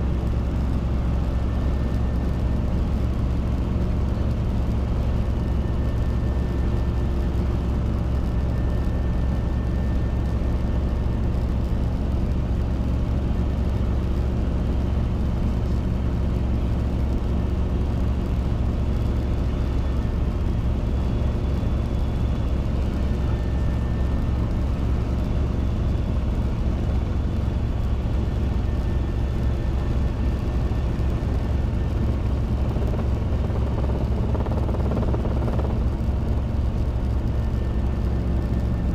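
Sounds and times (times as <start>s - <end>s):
helicopter engine and rotors droning: 0.0s - 38.9s.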